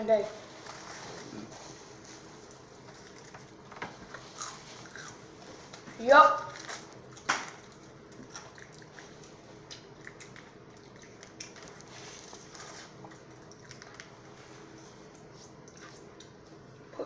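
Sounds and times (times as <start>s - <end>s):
chewing fried chicken: 0.6s - 16.9s.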